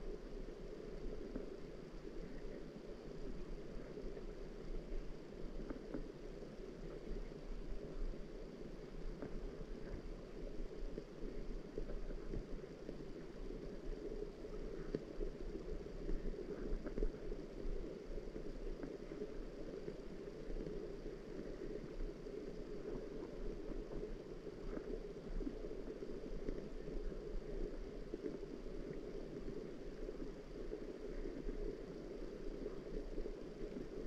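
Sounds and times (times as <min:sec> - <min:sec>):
muffled water rush: 0:00.0 - 0:34.0.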